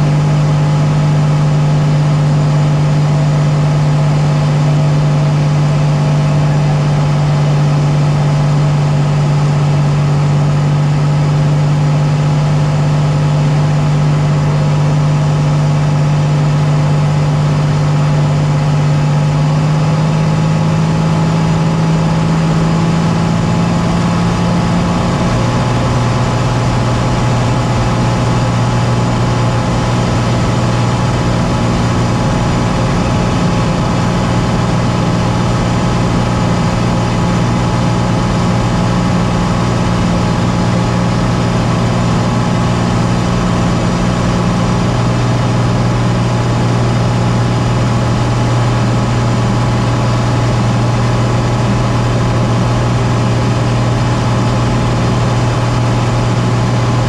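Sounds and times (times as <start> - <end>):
aircraft engine droning: 0.0 - 57.0.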